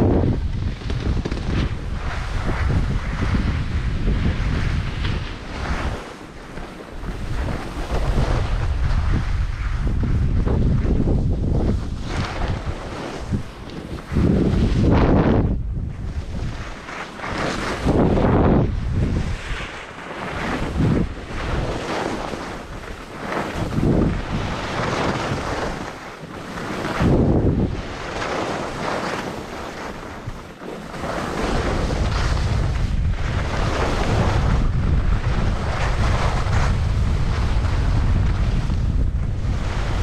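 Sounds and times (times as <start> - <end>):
skis scraping over snow: 0.0 - 40.0
wind buffeting microphone: 0.0 - 40.0.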